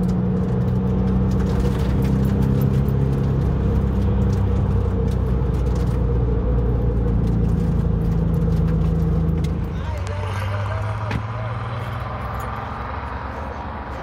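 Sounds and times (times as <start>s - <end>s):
car engine cruising: 0.0s - 14.0s
tyre and road noise: 0.0s - 14.0s.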